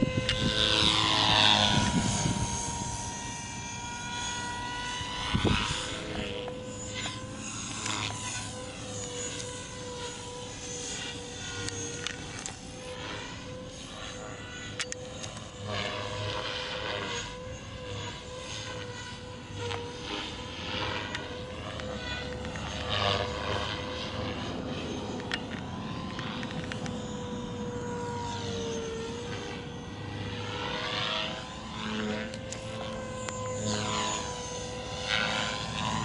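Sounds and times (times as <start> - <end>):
rc helicopter motor whine: 0.0 - 36.0.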